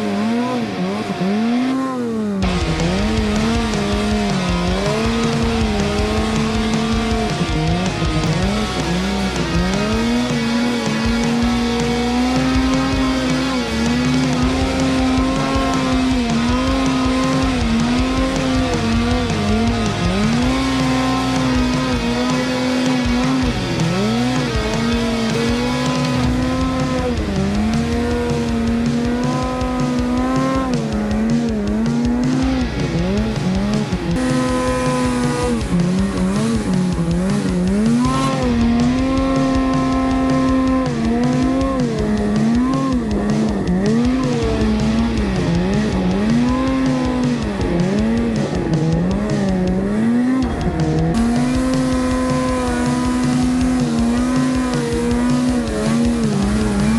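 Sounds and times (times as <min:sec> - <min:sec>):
snowmobile engine revving: 0:00.0 - 0:56.9.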